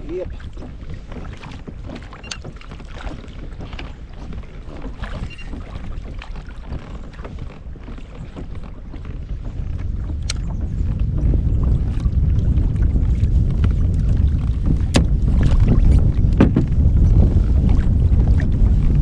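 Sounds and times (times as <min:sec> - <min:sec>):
low wind rumble on microphone: 0:00.0 - 0:19.0
water lapping against a hull: 0:00.0 - 0:19.0.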